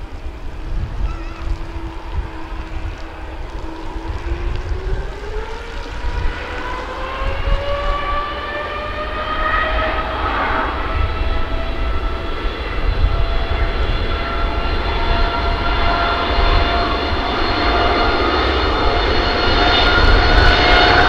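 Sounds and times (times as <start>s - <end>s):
low rumble: 0.0s - 17.5s
jet engines spooling up: 0.0s - 21.0s.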